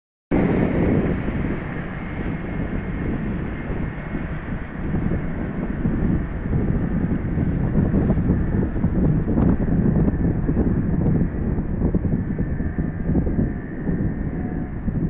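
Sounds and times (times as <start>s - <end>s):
wind buffeting microphone: 0.3s - 15.0s.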